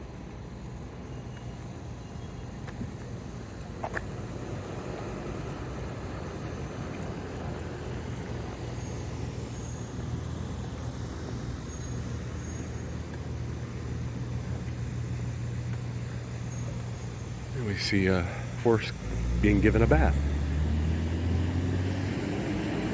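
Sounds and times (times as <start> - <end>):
road noise: 0.0 - 22.9
vehicle engine humming: 0.0 - 22.9.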